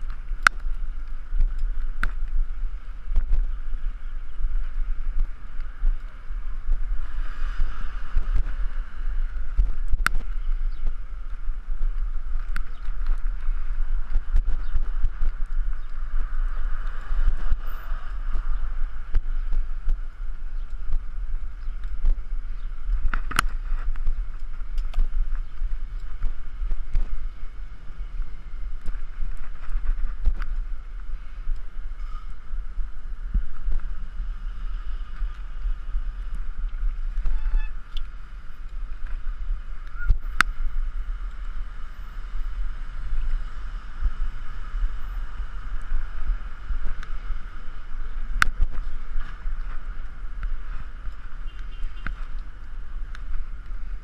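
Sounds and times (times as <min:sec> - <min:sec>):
wind buffeting camera: 0:00.0 - 0:54.0.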